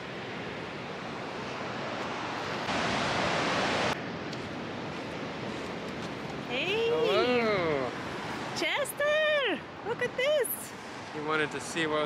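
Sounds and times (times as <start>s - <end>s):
ocean surf: 0.0s - 12.0s
wind: 0.0s - 12.0s.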